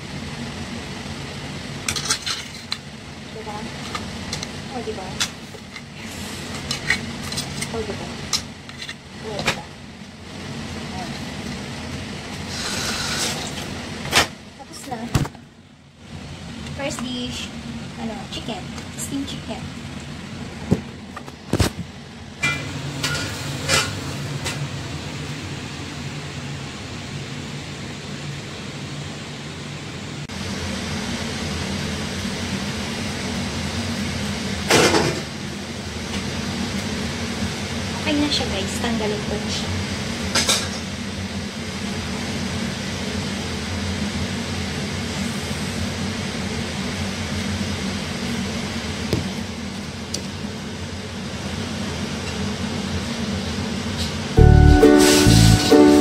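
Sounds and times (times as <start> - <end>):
range hood fan running: 0.0 - 56.0.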